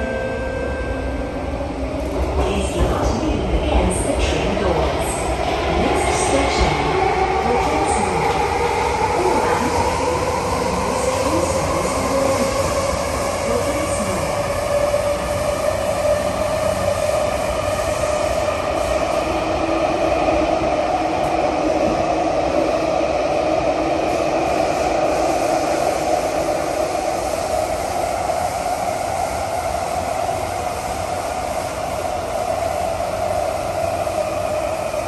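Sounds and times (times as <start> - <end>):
train wheels on rails: 1.2 - 35.0.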